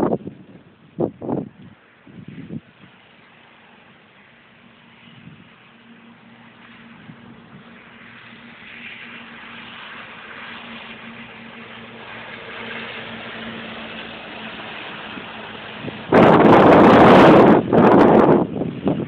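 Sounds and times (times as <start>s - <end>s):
wind buffeting microphone: 0.0s - 19.0s
wind hissing: 0.0s - 19.0s.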